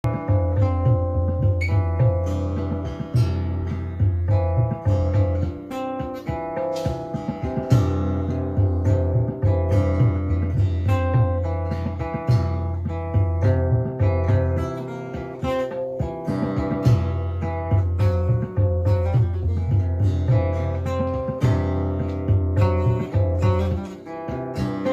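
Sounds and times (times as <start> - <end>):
acoustic guitar strummed and picked: 0.0 - 24.9.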